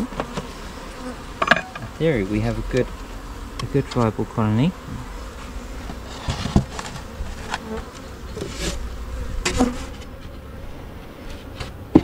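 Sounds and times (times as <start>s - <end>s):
honey bees buzzing: 0.0s - 12.0s
knocks and scrapes on hive: 0.0s - 12.0s.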